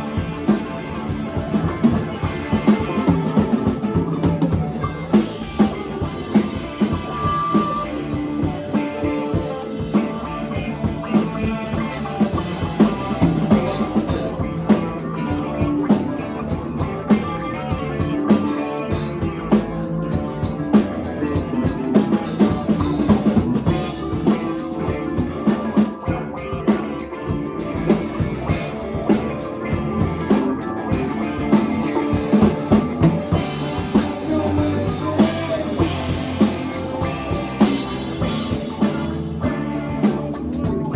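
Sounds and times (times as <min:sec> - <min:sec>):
drum kit beat: 0:00.0 - 0:40.9
guitar: 0:00.0 - 0:40.9.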